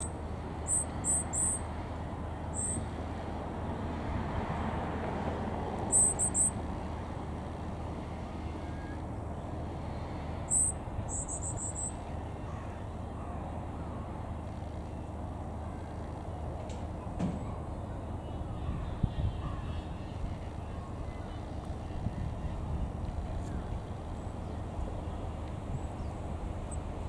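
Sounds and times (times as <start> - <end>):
steady low background rumble: 0.0 - 27.0.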